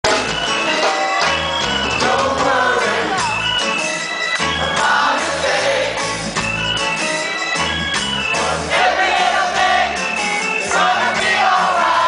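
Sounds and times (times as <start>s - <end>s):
bass line: 0.0s - 3.8s, 4.4s - 12.0s
live reggae band: 0.0s - 12.0s.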